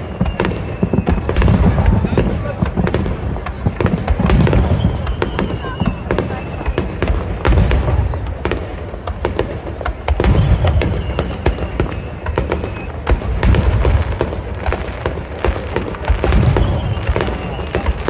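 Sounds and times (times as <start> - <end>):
firework booms: 0.0 - 18.0
firework crackling pops: 0.0 - 18.0.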